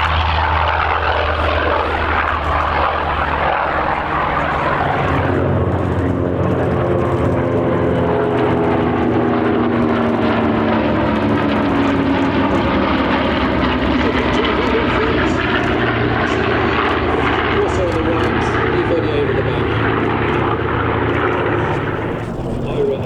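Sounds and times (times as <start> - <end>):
propeller aircraft engine droning: 0.0 - 23.0.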